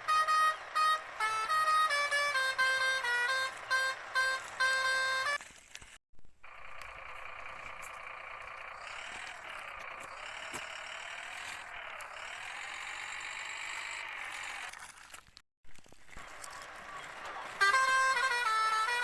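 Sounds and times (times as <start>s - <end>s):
vehicle engine running: 0.0s - 5.4s, 6.2s - 14.9s, 15.8s - 19.0s.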